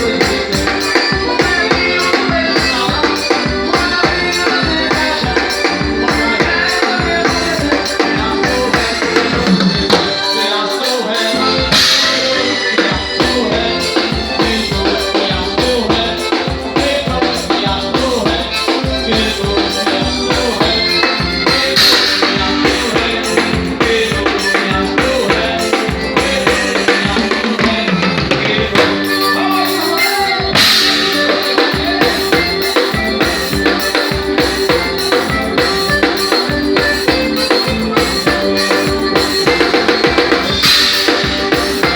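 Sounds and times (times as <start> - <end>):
drum kit beat: 0.0 - 41.9
live band playing upbeat music: 0.0 - 41.9.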